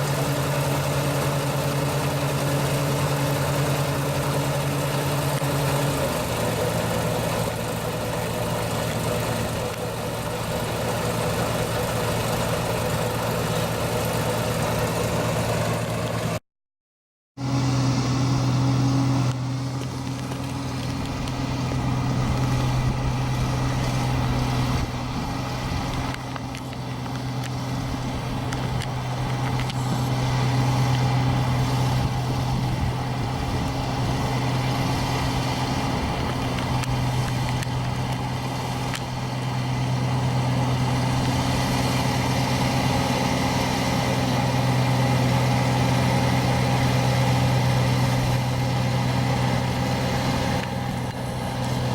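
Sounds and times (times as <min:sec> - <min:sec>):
harvesting machine engine hum: 0:00.0 - 0:16.4, 0:17.4 - 0:51.9.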